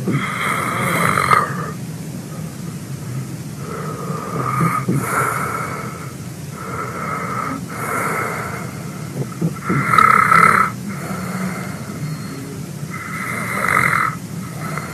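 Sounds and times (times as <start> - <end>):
man snoring: 0.0 - 2.5, 3.6 - 14.9.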